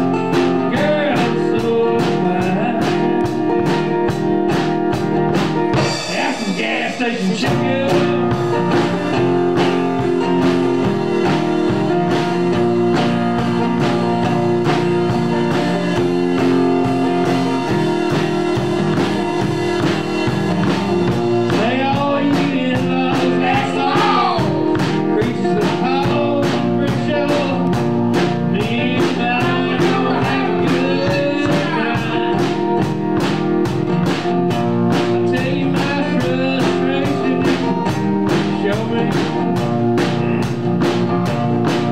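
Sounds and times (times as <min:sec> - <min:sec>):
bending guitar lead line: 0:00.0 - 0:41.9
drum kit beat: 0:00.0 - 0:41.9
electric guitar: 0:00.0 - 0:41.9.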